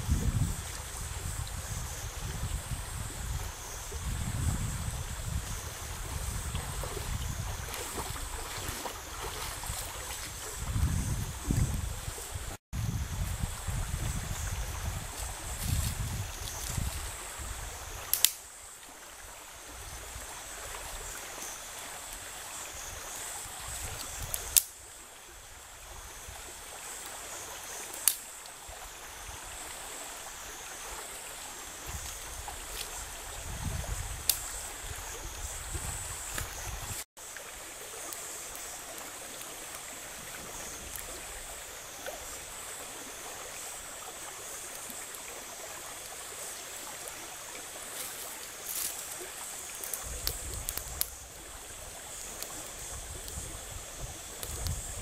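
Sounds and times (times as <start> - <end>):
creek water running over rocks: 0.0 - 55.0.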